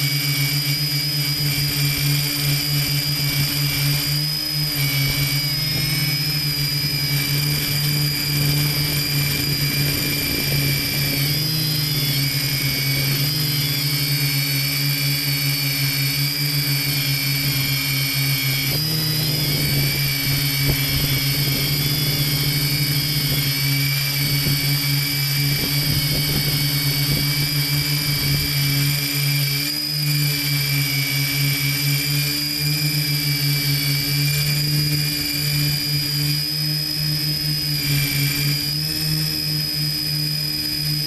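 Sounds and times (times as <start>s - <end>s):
drone motors whining: 0.0s - 41.0s.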